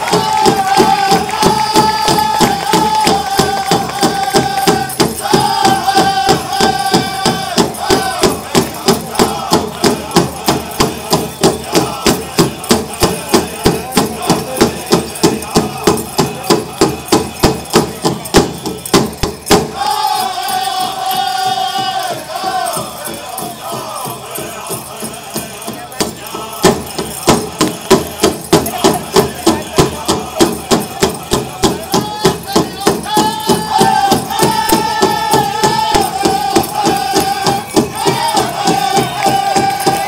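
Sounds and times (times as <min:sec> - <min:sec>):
drum fast beat: 0:00.0 - 0:40.0
singers high voices: 0:00.0 - 0:40.0.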